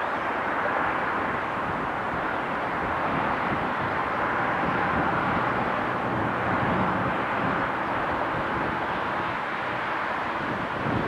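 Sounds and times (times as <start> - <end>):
freight train rumbling on rails: 0.0 - 11.0.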